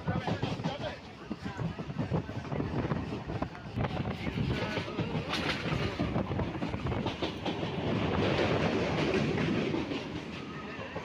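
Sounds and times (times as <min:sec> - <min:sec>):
train wheels clattering over rails: 0:00.0 - 0:11.0.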